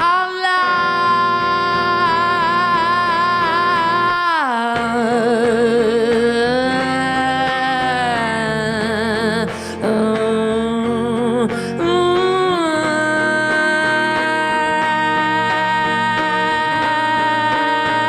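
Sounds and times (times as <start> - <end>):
instrumental backing: 0.0 - 18.0
person singing with vibrato: 0.0 - 18.0.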